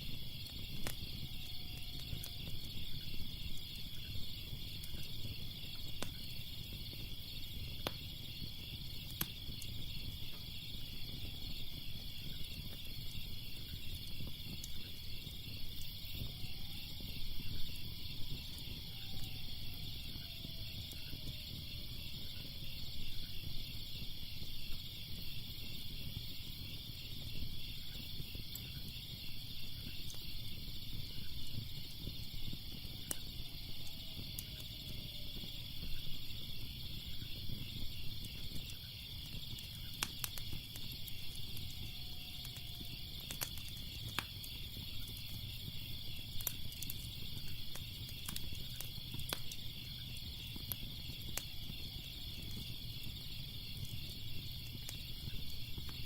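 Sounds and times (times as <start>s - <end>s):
crickets chirping: 0.0s - 56.0s
wood fire crackling: 0.0s - 56.0s.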